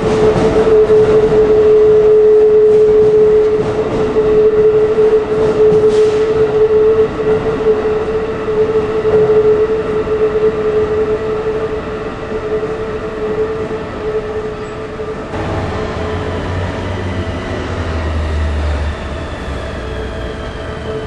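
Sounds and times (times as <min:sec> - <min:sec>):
electric train whine: 0:00.0 - 0:21.0
train low rumble: 0:00.0 - 0:21.0.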